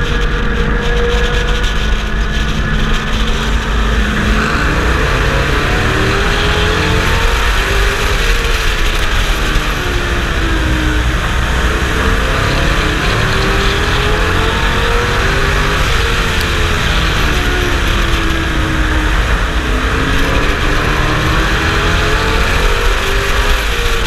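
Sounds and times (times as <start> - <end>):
race truck engine revving: 0.0 - 24.0
wind and road noise: 0.0 - 24.0.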